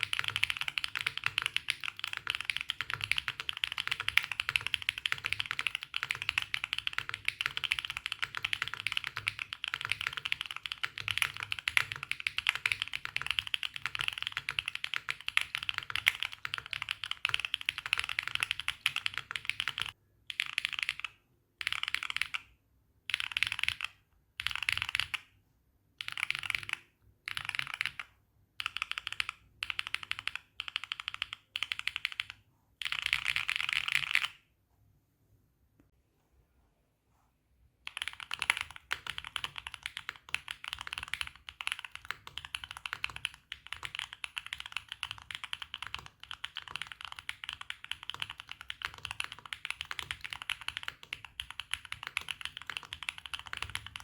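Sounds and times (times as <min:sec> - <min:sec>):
mechanical keyboard typing: 0:00.0 - 0:25.3, 0:26.0 - 0:34.4, 0:37.8 - 0:54.0.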